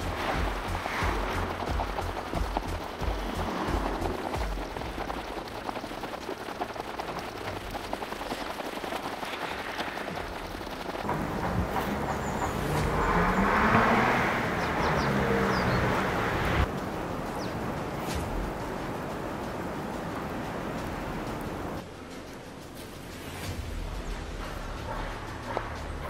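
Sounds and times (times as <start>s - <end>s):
wind buffeting microphone: 0.0s - 21.8s
vehicle engine hum: 0.0s - 26.0s.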